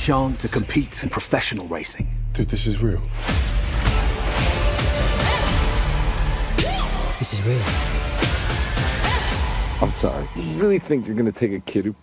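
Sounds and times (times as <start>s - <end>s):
film trailer music: 0.0s - 12.0s.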